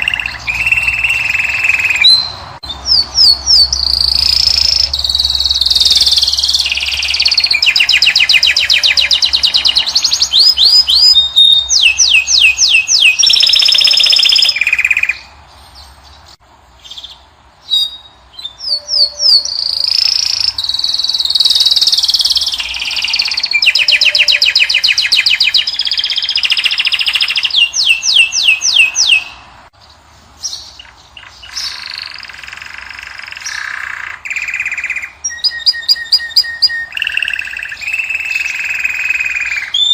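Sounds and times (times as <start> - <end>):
finch singing trills and whistles: 0.0 - 39.9.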